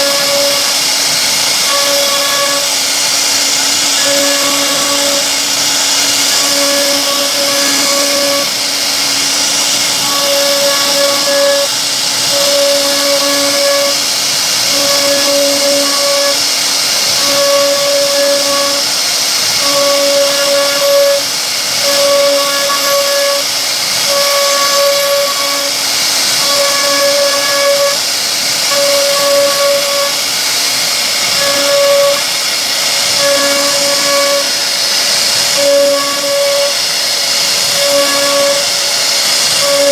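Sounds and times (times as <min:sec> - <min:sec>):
router spindle cutting wood: 0:00.0 - 0:39.9.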